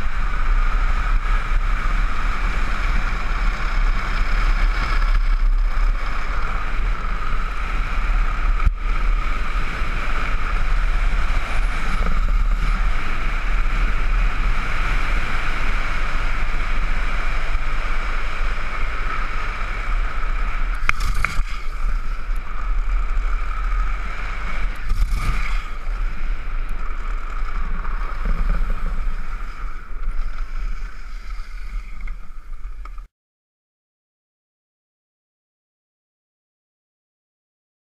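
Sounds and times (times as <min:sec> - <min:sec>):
wheels rolling on asphalt: 0:00.0 - 0:33.1.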